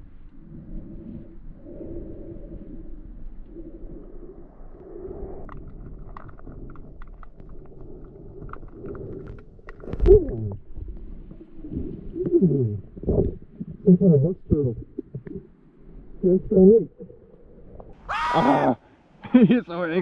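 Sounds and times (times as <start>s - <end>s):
low underwater hum: 0.0s - 19.4s
faint underwater clicks: 0.1s - 18.0s.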